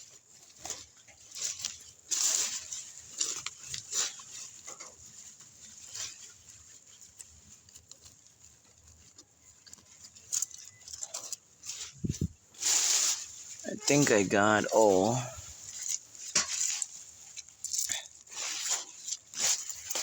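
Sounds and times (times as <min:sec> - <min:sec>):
rustling and scraping of soil: 0:00.0 - 0:20.0.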